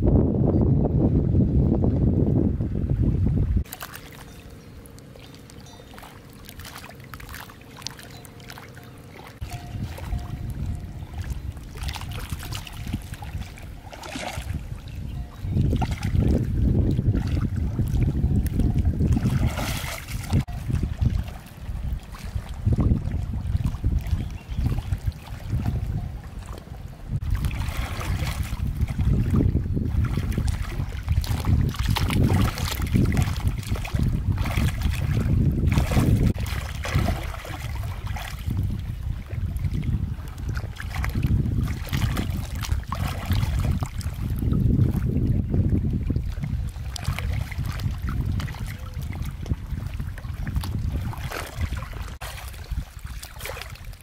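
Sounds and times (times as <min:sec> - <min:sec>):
wind rumble on microphone: 0:00.0 - 0:04.8, 0:09.2 - 0:54.0
water splashing around feet: 0:03.6 - 0:45.2, 0:46.0 - 0:54.0.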